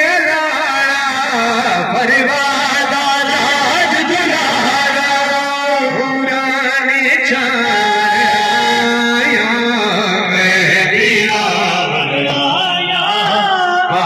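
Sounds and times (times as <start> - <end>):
man chanting a lament: 0.0 - 14.0.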